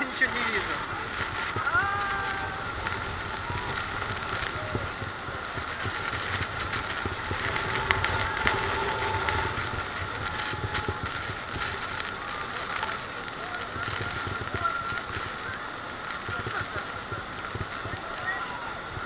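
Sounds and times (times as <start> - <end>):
boat engine running: 0.0 - 19.0
waterfall roaring: 0.0 - 19.0.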